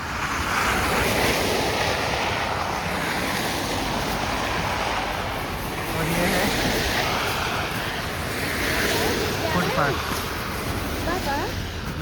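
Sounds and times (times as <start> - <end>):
tyres hissing on wet road: 0.0 - 12.0.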